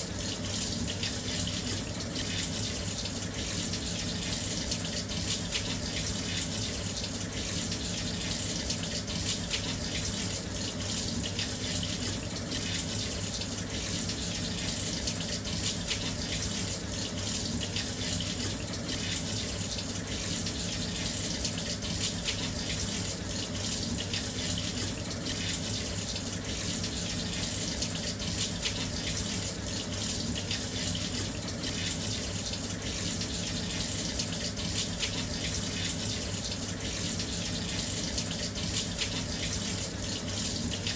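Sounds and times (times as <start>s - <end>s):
water pouring into washing machine: 0.0s - 40.9s.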